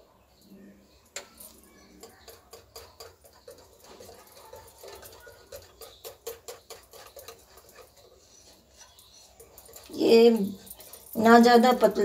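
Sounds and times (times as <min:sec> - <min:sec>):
wet batter squelches: 0:01.2 - 0:12.0
whisk clicking against glass bowl: 0:01.2 - 0:12.0.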